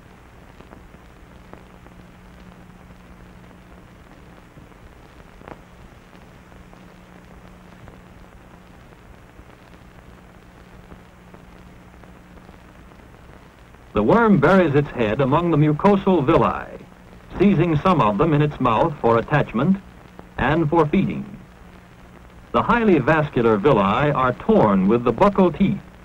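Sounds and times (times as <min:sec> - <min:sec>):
faint low hum: 0:00.0 - 0:26.0
film soundtrack hiss and crackle: 0:00.0 - 0:26.0.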